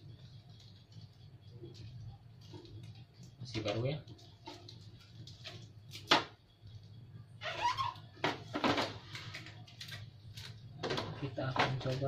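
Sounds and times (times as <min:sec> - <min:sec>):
plastic packaging crinkling: 0:00.0 - 0:07.0, 0:07.7 - 0:12.0.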